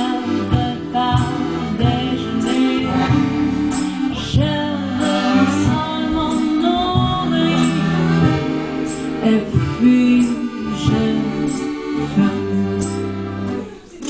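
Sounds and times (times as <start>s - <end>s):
woman singing: 0.0s - 8.3s, 9.2s - 14.0s
accordion chords: 0.0s - 14.0s.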